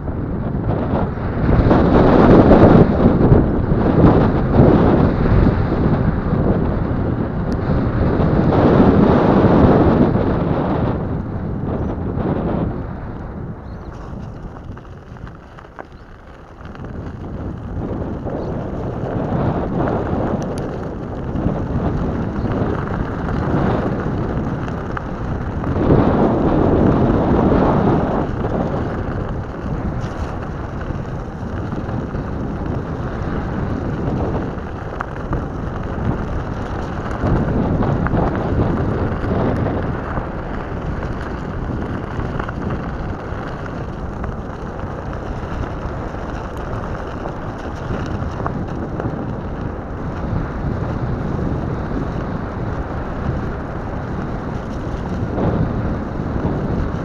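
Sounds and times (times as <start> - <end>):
tyres rolling over gravel and dirt: 0.0 - 57.0
wind buffeting microphone: 0.0 - 57.0.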